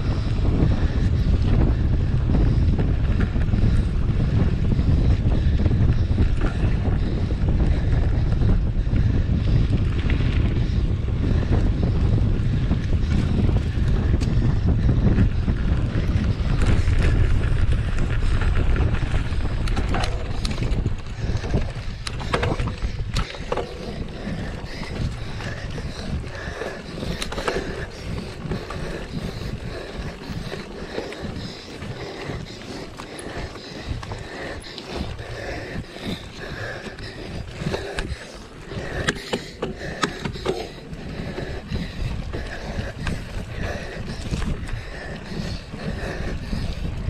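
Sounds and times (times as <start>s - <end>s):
bike rattling over rough ground: 0.0s - 47.0s
wind buffeting microphone: 0.0s - 47.0s.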